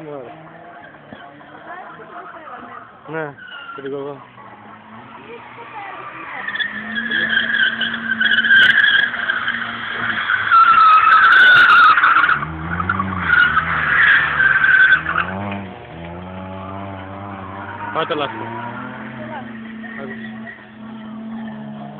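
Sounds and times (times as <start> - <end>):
car engine running and revving: 0.0 - 21.9
car tyres squealing: 0.0 - 21.9.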